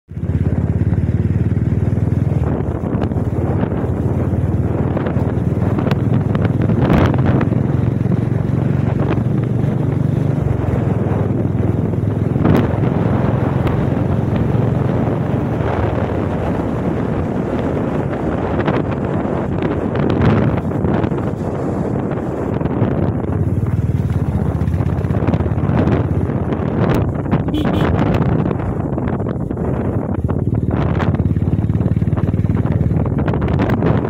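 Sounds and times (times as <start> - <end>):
motorcycle engine running: 0.1 - 34.0
wind buffeting microphone: 0.1 - 34.0.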